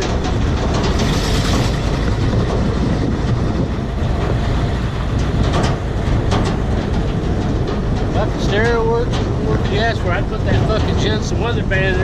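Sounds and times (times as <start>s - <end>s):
truck engine rumbling: 0.0s - 12.0s
wind noise on microphone: 0.0s - 12.0s.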